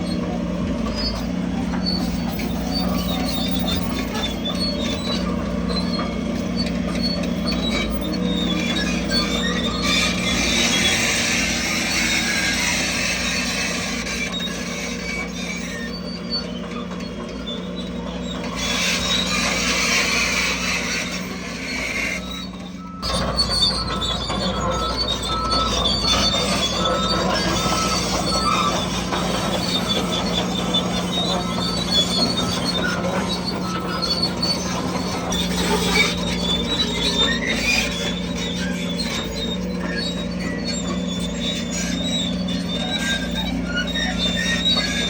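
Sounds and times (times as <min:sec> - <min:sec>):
bulldozer diesel engine: 0:00.0 - 0:45.0
metallic squeal of tracks: 0:00.0 - 0:45.0.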